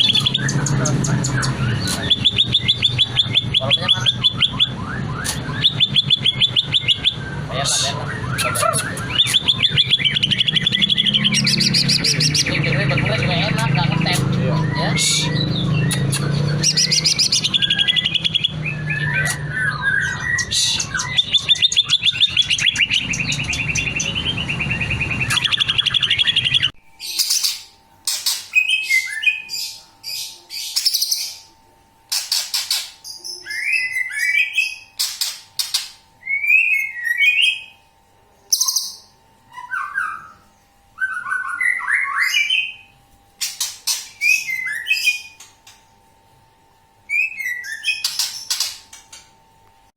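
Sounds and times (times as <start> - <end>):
bird singing chirps and trills: 0.0 - 31.5, 32.1 - 37.8, 38.4 - 45.8, 47.1 - 48.9.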